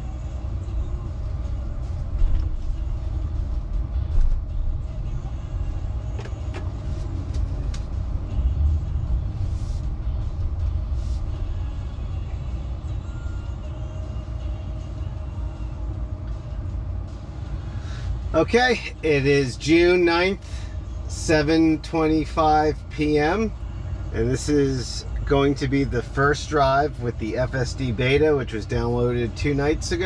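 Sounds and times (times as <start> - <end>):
low rumble inside car cabin: 0.0 - 30.0.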